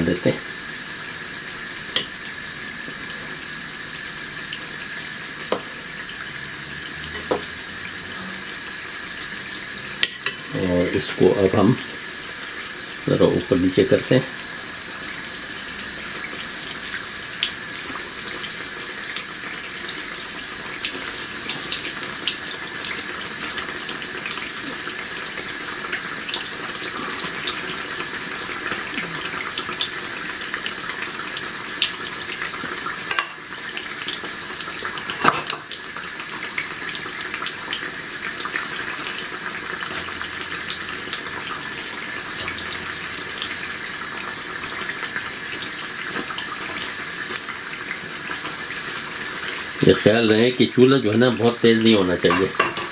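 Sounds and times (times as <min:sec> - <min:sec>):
food deep-frying in oil: 0:00.0 - 0:52.9.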